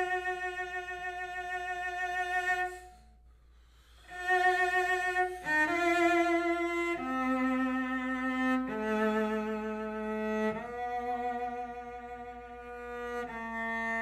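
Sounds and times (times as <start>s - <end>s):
bowed cello notes: 0.0s - 14.0s.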